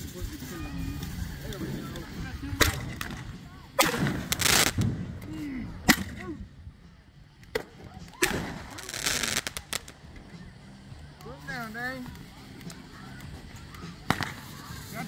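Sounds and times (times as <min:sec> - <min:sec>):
firework cracks: 0:00.0 - 0:15.0
fireworks hissing crackling spray: 0:00.0 - 0:15.0.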